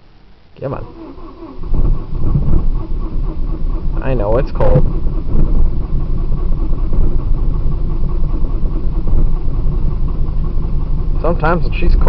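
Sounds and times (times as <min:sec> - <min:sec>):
car engine struggling to start: 0:00.6 - 0:12.0.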